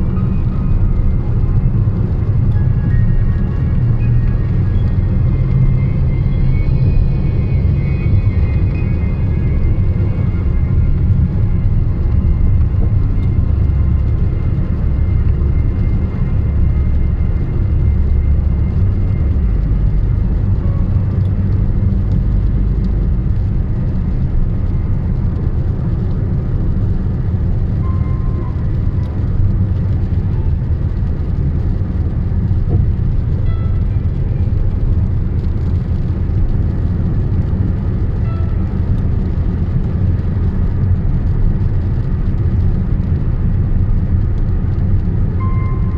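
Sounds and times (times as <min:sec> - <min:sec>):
car driving on highway: 0:00.0 - 0:45.9.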